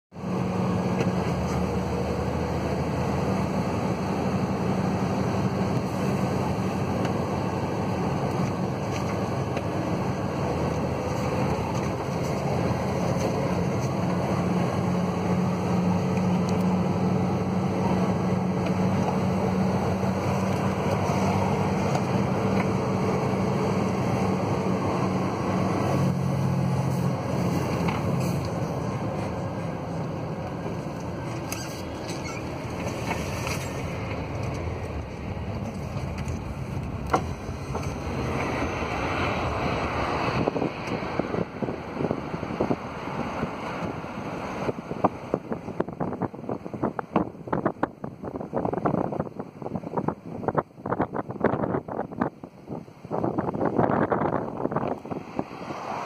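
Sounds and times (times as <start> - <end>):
vehicle engine drone: 0.1 - 56.0.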